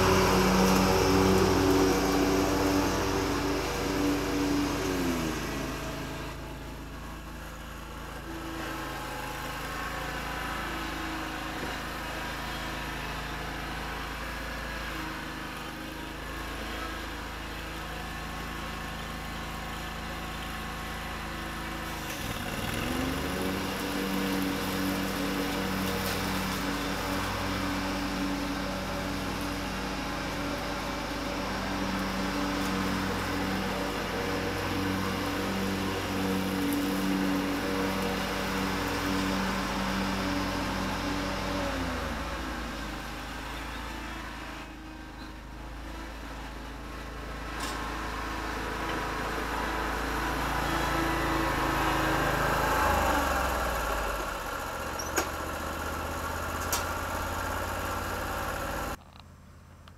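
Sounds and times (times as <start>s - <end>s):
riding lawn mower engine: 0.0s - 59.9s.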